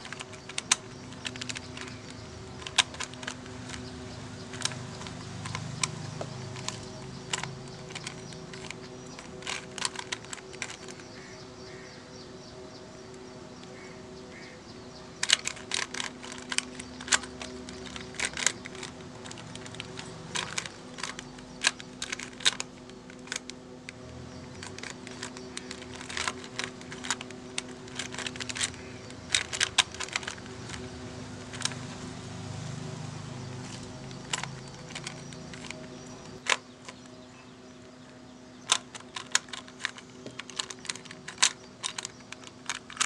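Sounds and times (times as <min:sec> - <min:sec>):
puzzle cube layers clicking: 0:00.0 - 0:11.2, 0:15.2 - 0:32.0, 0:33.7 - 0:37.0, 0:38.6 - 0:43.0
faint steady hum: 0:00.0 - 0:43.0.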